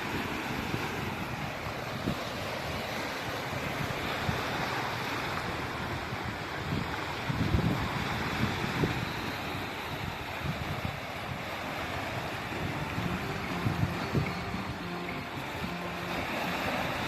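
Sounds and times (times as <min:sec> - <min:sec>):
sea waves washing in: 0:00.0 - 0:17.0
wind buffeting microphone: 0:00.0 - 0:17.0.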